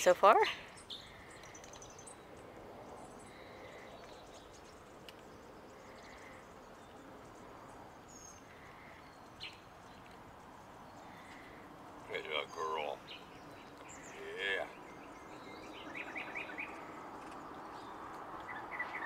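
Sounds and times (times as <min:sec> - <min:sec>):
bird chirps: 0:00.0 - 0:10.2, 0:10.8 - 0:19.0.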